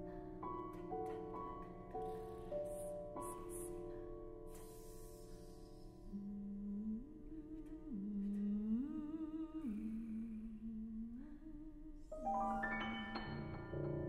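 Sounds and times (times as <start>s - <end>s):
mezzo-soprano singing long low notes: 0.0s - 14.0s.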